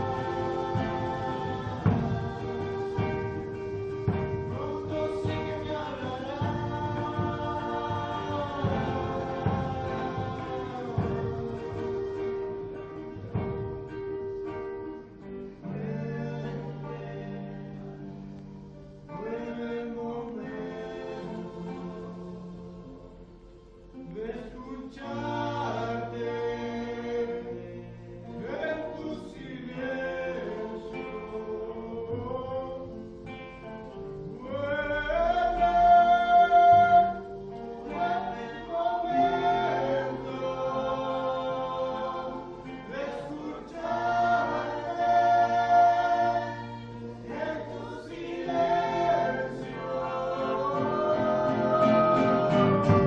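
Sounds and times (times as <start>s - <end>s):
choir singing slow song: 0.0s - 53.0s
low accompaniment: 0.0s - 53.0s.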